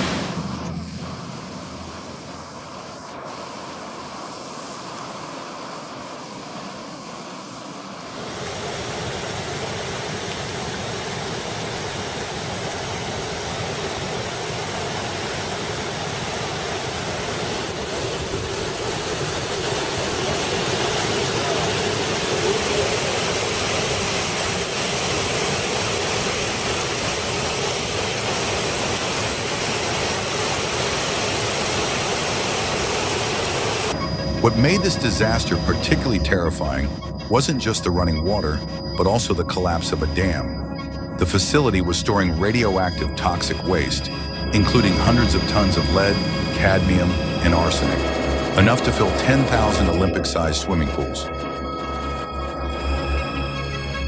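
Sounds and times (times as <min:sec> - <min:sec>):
rushing floodwater: 0:00.0 - 0:40.3, 0:41.2 - 0:51.2.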